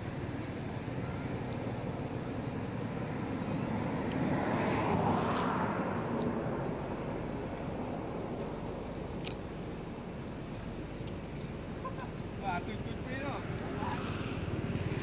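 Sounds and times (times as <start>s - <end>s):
distant vehicle engine rumble: 0.0s - 15.0s.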